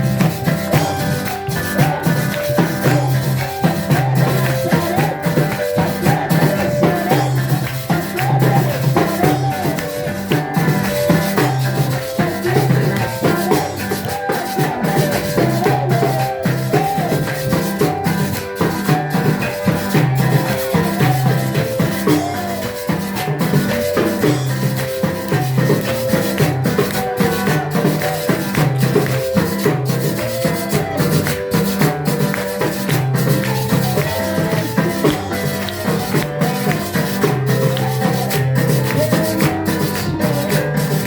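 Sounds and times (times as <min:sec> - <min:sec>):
bass line: 0:00.0 - 0:41.0
drums: 0:00.0 - 0:41.0
maracas shaking: 0:00.0 - 0:41.0
worship music: 0:00.0 - 0:41.0.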